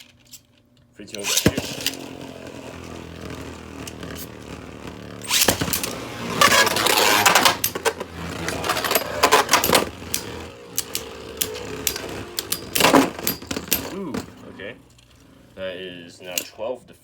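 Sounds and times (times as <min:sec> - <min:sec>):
spinning tops clashing: 0:01.2 - 0:15.6
spinning tops grinding scrape: 0:01.2 - 0:16.6
spinning tops humming: 0:01.2 - 0:16.7.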